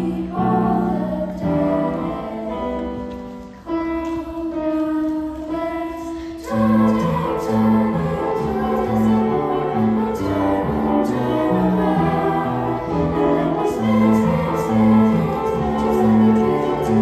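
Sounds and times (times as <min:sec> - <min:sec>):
girls' choir singing: 0:00.0 - 0:17.0.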